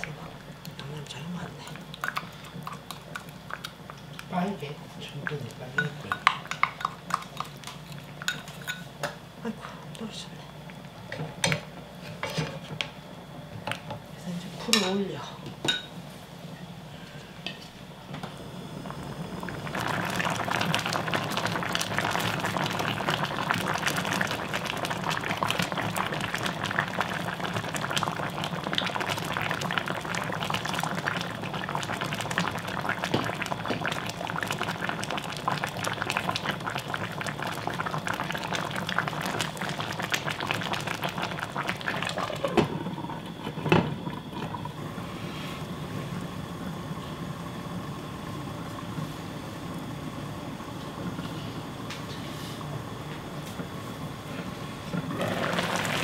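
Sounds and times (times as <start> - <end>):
broth boiling in a frying pan: 0.0 - 56.0.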